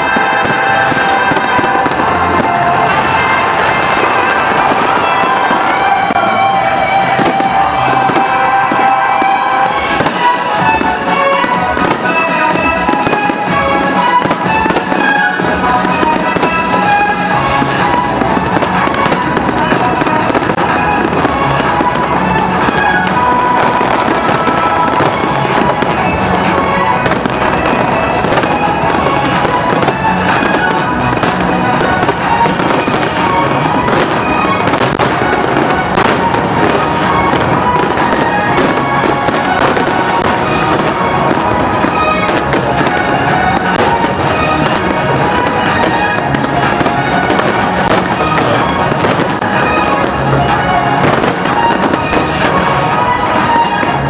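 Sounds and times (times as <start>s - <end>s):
fireworks bursting and crackling: 0.0s - 54.0s
loud music: 0.0s - 54.0s.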